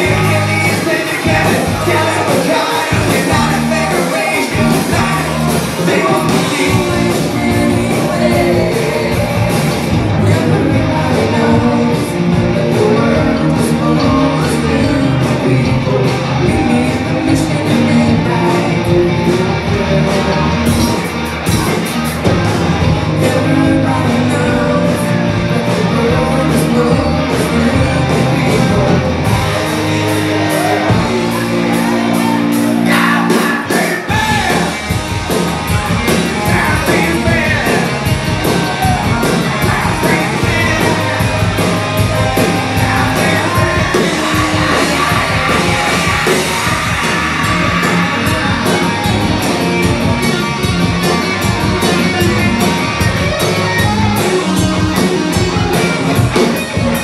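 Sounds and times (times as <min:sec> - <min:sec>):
bass guitar: 0:00.0 - 0:57.0
drums: 0:00.0 - 0:57.0
electric guitar: 0:00.0 - 0:57.0
keyboard: 0:00.0 - 0:57.0
singing and shouted vocals: 0:00.0 - 0:57.0.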